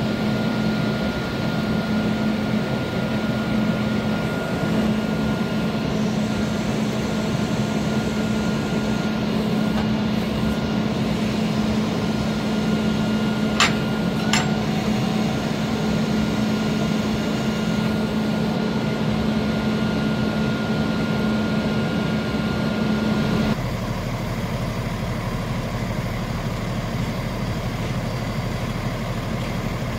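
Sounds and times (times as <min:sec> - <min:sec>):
steady whine: 0:00.0 - 0:24.2
diesel truck idling: 0:00.0 - 0:29.9.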